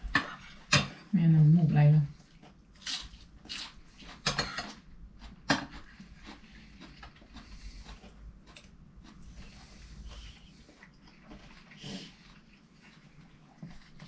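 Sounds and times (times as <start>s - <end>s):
chewing and lip-smacking: 2.2s - 14.0s.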